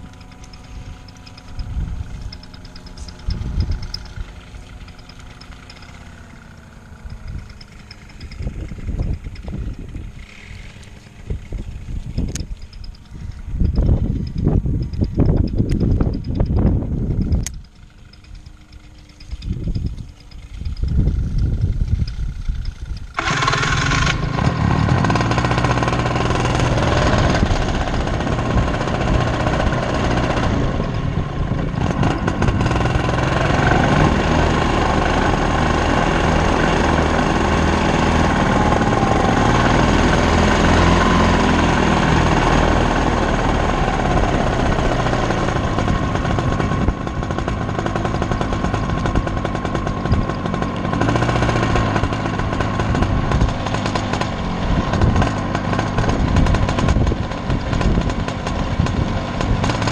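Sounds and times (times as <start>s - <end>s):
paramotor engine running: 0.0s - 59.9s.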